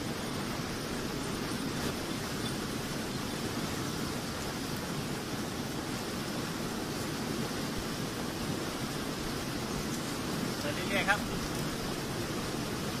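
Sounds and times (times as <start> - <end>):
fast-flowing water rushing: 0.0 - 13.0.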